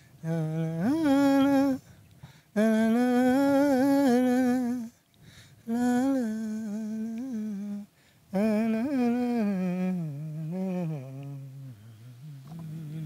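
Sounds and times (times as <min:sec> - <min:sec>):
man humming a melody: 0:00.0 - 0:01.9, 0:02.6 - 0:05.0, 0:05.6 - 0:13.0.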